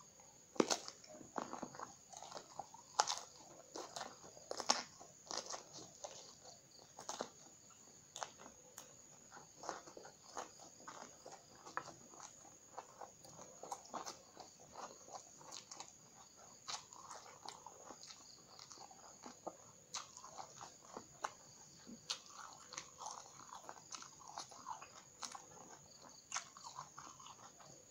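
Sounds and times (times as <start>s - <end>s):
crunching and chewing: 0.0s - 27.9s.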